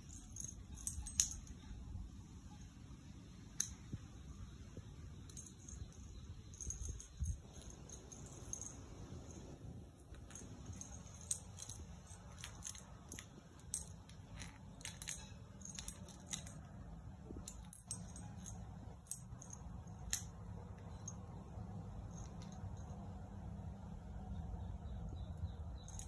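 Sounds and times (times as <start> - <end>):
faint low background rumble: 0.0 - 26.0.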